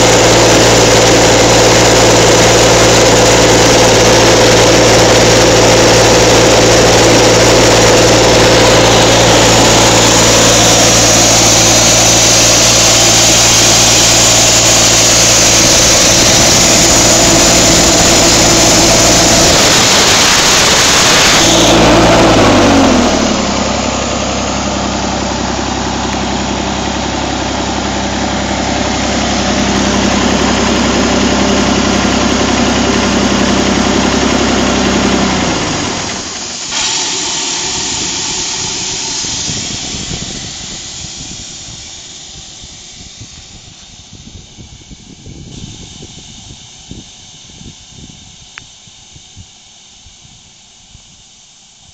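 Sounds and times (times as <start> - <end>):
air compressor hiss: 0.0 - 27.5, 35.4 - 51.9
diesel engine running: 0.0 - 49.3.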